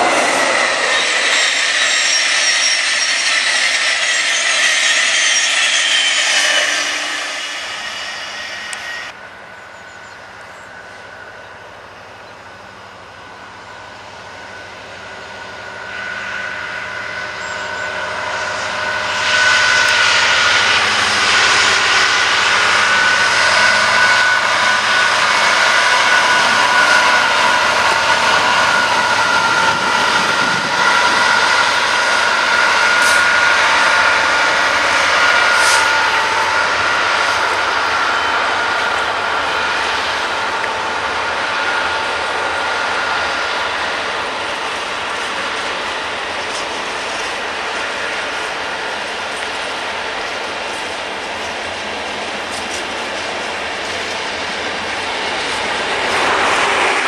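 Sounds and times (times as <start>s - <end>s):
diesel freight train passing: 0.0s - 57.0s
electric train passing: 0.0s - 57.0s
high whine: 0.0s - 57.0s.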